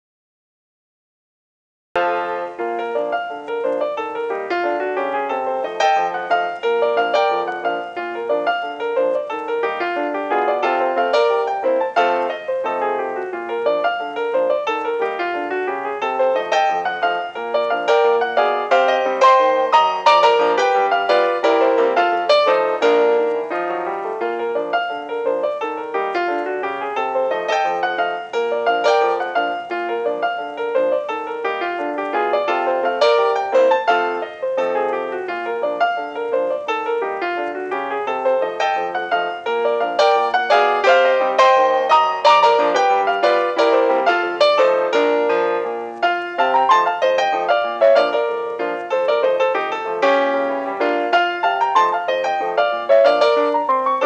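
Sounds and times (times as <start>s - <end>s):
quick piano notes: 2.0s - 54.0s.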